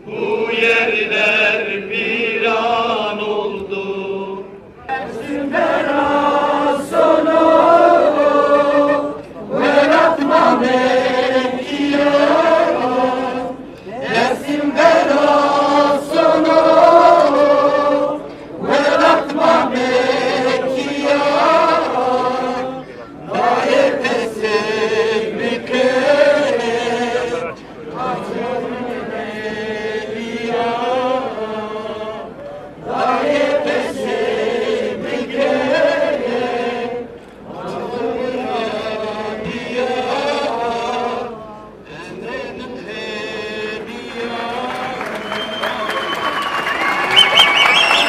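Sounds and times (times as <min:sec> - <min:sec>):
crowd chanting in unison: 0:00.0 - 0:45.6.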